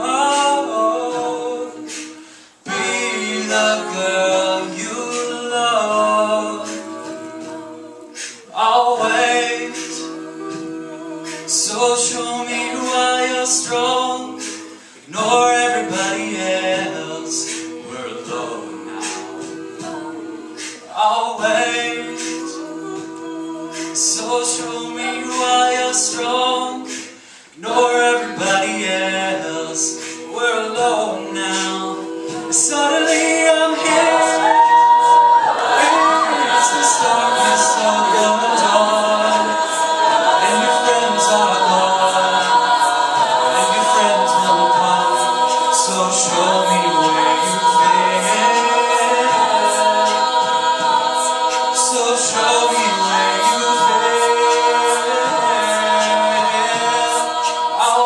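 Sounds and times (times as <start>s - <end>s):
a cappella group singing harmony: 0.0s - 58.0s.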